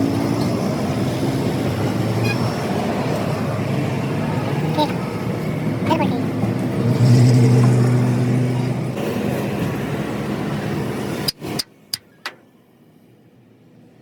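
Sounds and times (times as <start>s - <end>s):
vehicle engine humming: 0.0s - 13.8s
road traffic noise: 0.0s - 14.0s.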